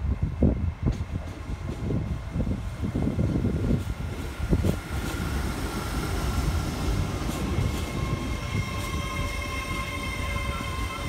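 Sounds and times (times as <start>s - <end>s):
electric train whine: 0.0s - 11.0s
train wheels rumbling on rails: 0.0s - 11.0s.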